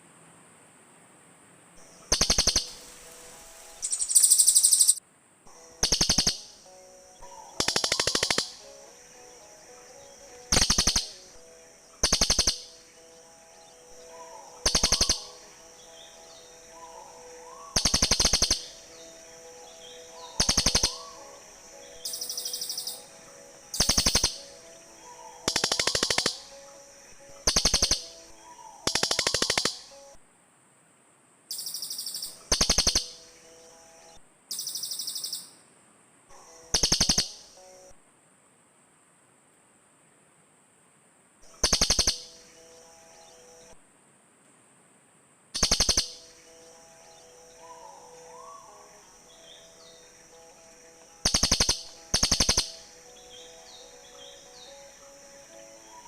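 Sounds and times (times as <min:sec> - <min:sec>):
steady high-pitched hiss: 0:00.0 - 0:56.0
birds giving harsh pulsed calls: 0:01.8 - 0:30.2, 0:31.5 - 0:35.6, 0:36.3 - 0:37.9, 0:41.4 - 0:43.8, 0:45.6 - 0:56.0.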